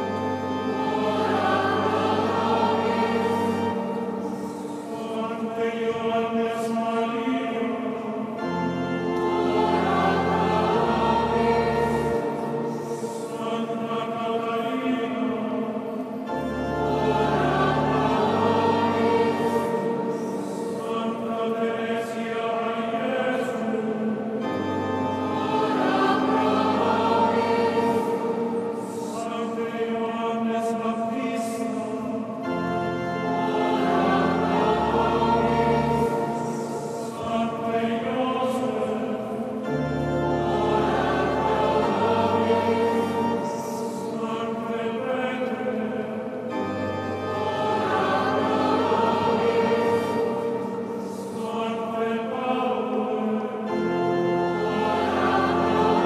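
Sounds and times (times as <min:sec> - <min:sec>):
choir singing sacred music: 0:00.0 - 0:56.0
organ: 0:00.0 - 0:56.0.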